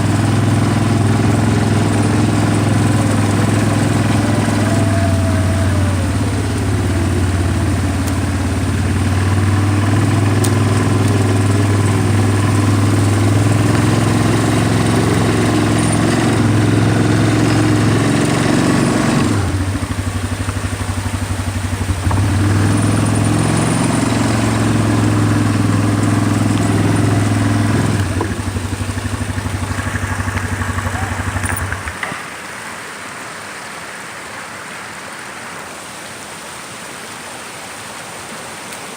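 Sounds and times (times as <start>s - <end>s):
vehicle engine running: 0.0s - 32.4s
running water rushing: 0.0s - 38.9s.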